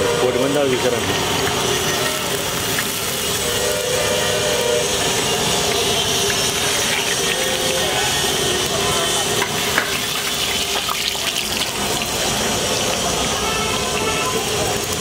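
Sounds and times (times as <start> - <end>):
chillies sizzling in hot oil: 0.2 - 15.0.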